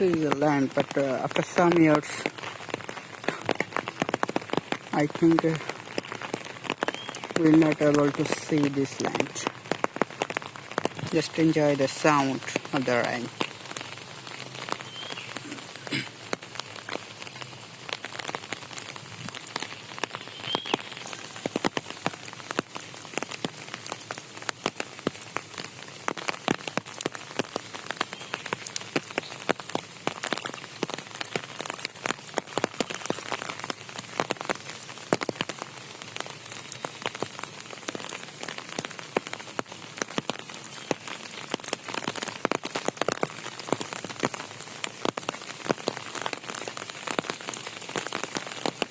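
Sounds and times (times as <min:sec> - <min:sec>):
raindrops ticking on surface: 0:00.0 - 0:48.9
steady rain hiss: 0:00.0 - 0:48.9.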